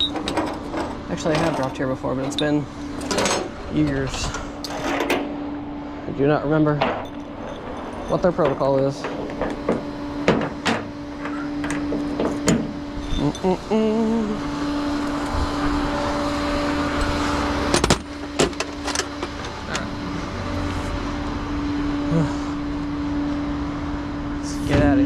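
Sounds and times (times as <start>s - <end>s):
vehicle idling: 0.0s - 25.0s.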